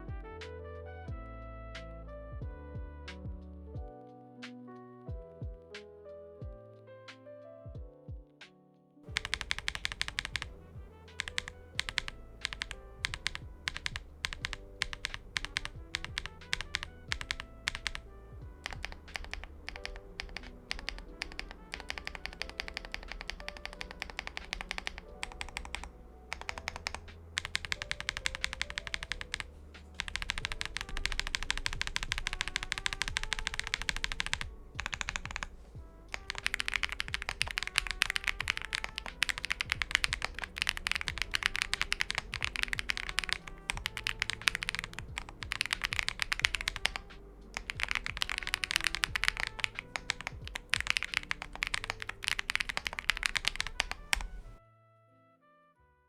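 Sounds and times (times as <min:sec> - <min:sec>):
quiet background music: 0:00.0 - 0:56.0
fast typing on mechanical keyboard: 0:09.1 - 0:54.6.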